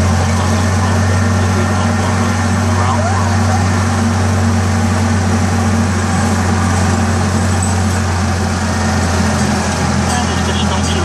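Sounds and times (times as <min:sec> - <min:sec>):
miniature train engine droning: 0:00.0 - 0:11.0.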